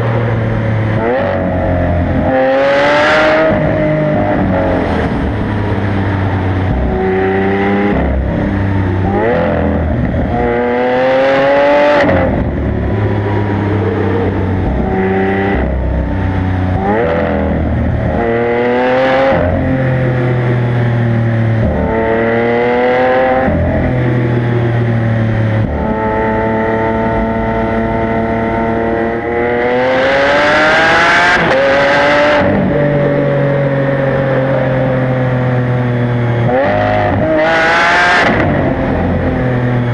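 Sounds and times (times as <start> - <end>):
sports car engine revving through gears: 0.0 - 39.9.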